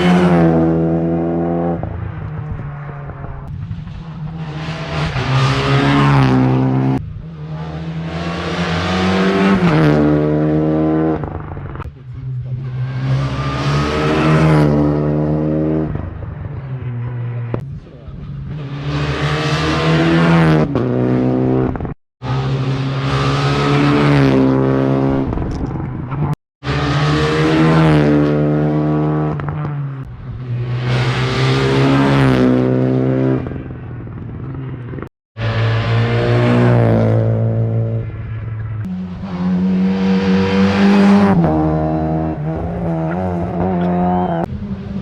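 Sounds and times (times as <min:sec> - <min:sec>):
rally cars racing past: 0:00.0 - 0:45.0.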